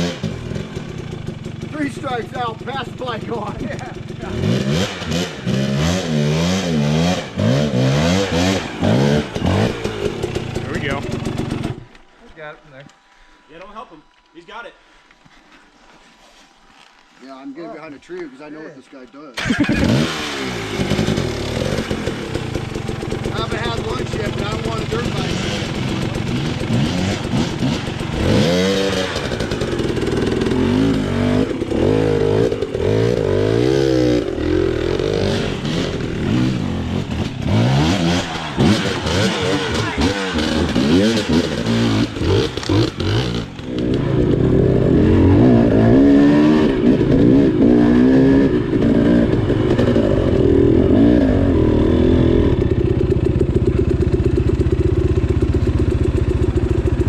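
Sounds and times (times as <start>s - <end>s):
dirt bike engine revving: 0.0s - 12.0s, 19.4s - 57.0s.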